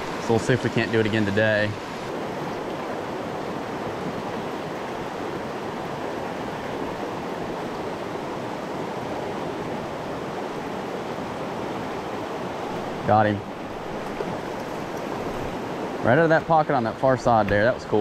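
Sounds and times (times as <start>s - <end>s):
stream flowing over stones: 0.0s - 18.0s.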